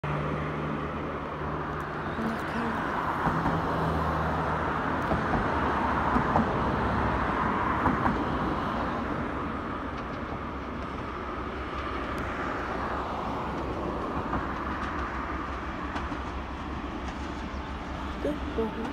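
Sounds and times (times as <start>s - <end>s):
diesel locomotive engine drone: 0.0s - 18.9s.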